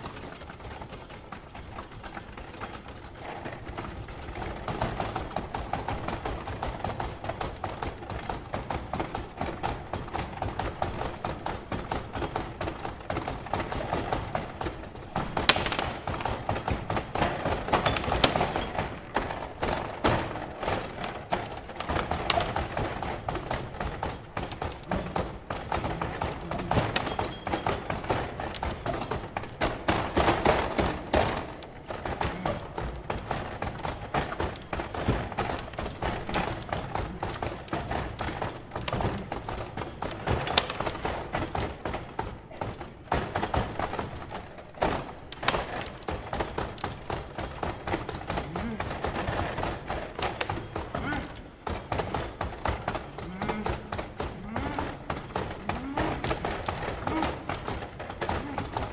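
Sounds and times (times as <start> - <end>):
foosball table clatter: 0.0 - 58.9.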